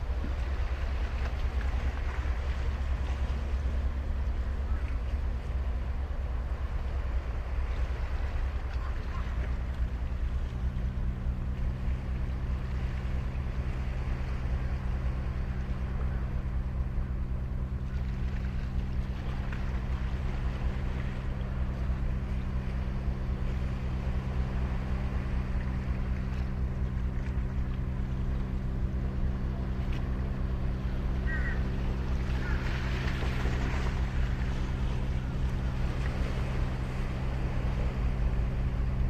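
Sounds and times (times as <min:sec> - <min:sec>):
low engine drone: 0:00.0 - 0:39.0.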